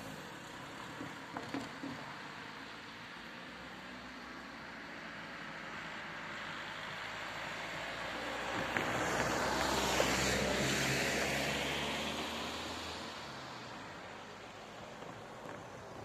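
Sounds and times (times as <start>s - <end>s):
van engine and tyre noise: 0.0s - 16.0s.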